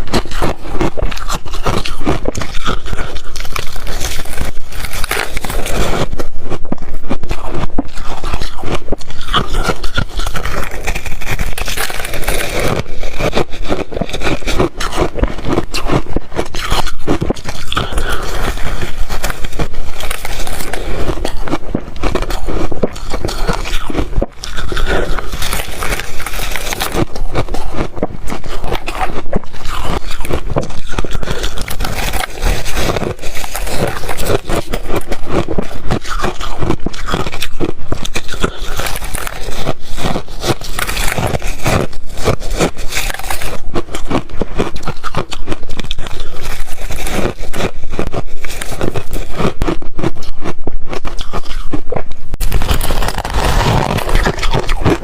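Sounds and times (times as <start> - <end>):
ice crunching being chewed: 0.0 - 55.0.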